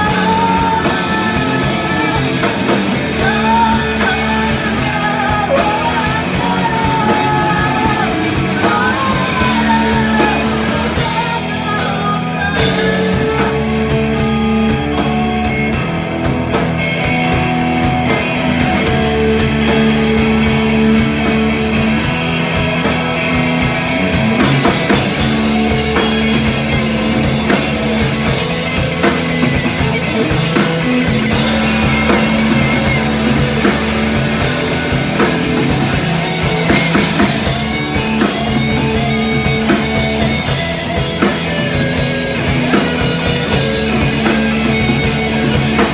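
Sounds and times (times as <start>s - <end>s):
bass guitar long notes: 0.0s - 45.9s
drum kit: 0.0s - 45.9s
electric guitars: 0.0s - 45.9s.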